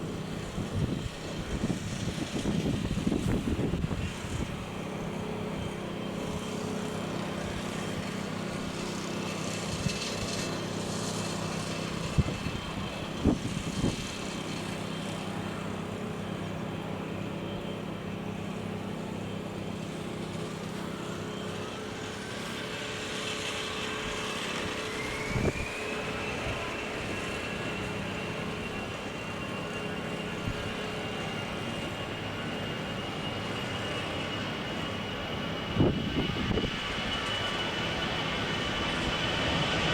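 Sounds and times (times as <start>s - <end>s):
jet engine rumble: 0.0s - 39.9s
jet engine whine rising: 0.0s - 39.9s.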